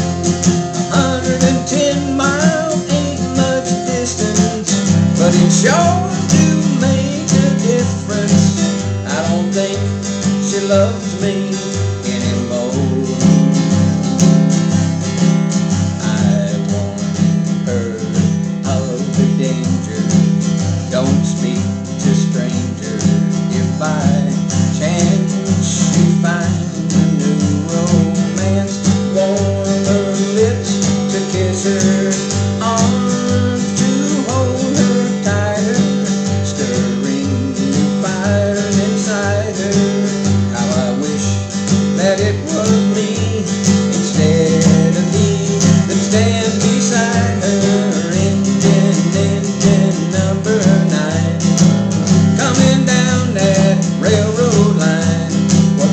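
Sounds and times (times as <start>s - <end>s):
acoustic guitar strumming: 0.0s - 55.9s
man singing: 0.0s - 55.9s.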